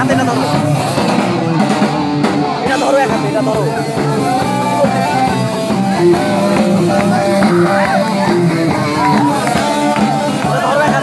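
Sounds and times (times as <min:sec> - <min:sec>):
loud guitar-led music: 0:00.0 - 0:11.0.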